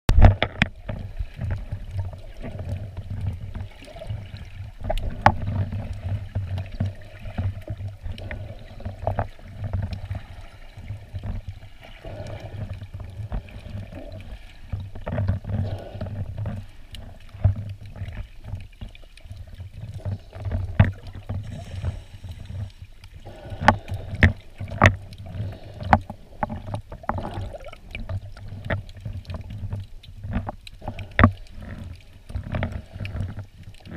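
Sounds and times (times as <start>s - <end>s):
muffled underwater water rumble: 0.1s - 33.9s.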